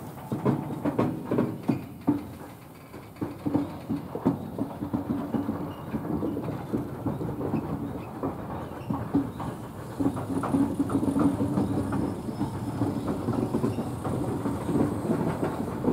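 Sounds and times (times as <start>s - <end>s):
train wheels knocking over rail joints: 0.0s - 15.9s.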